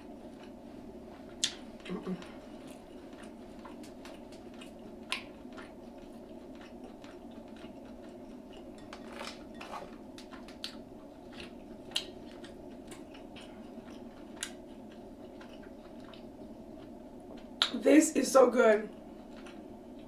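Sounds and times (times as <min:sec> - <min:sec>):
chewing and biting food: 0:00.0 - 0:17.7, 0:19.0 - 0:20.0
steady low hum: 0:00.0 - 0:20.0.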